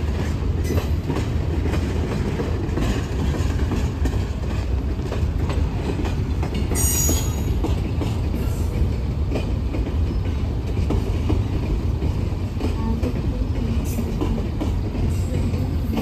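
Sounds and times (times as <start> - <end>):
steel wheels rumbling on rail: 0.0 - 16.0
wheels clicking over rail joints: 0.0 - 16.0.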